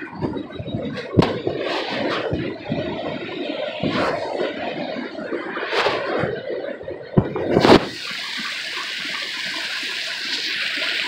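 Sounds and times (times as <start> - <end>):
rushing creek: 0.0 - 11.0.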